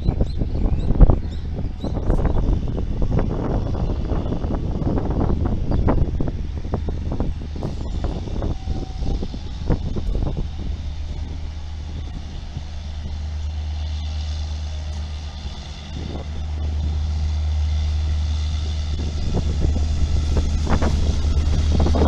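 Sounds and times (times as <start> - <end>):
electric locomotive humming: 0.0 - 22.0.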